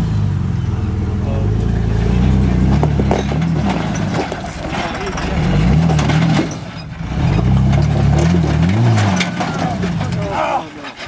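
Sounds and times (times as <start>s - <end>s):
engine revving: 0.0s - 10.4s.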